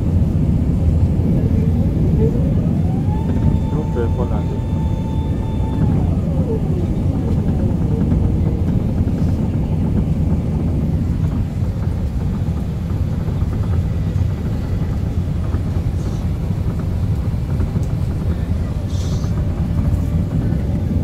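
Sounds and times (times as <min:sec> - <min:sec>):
airflow and engine noise: 0:00.0 - 0:21.0
airliner cabin rumble: 0:00.0 - 0:21.0.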